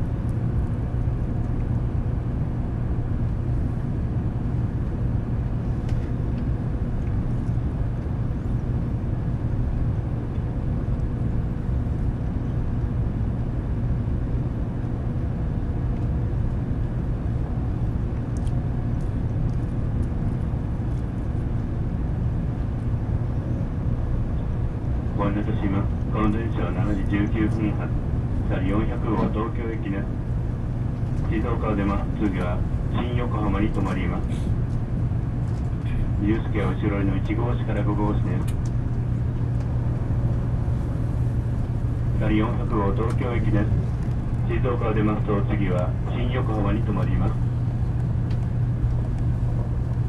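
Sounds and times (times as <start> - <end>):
low train hum: 0.0 - 50.0.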